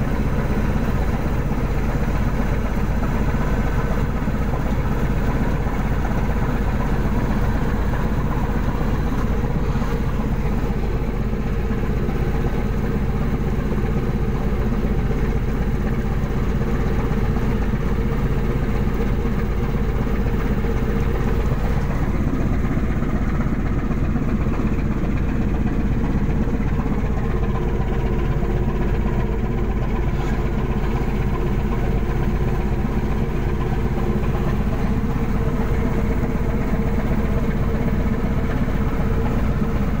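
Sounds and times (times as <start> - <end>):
boat engine and machinery drone: 0.0 - 40.0.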